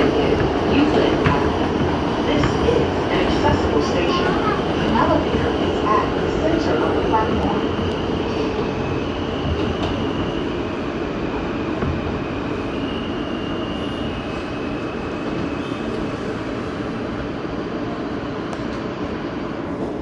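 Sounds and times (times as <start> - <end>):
subway train wheels rumbling on rails: 0.0 - 20.0.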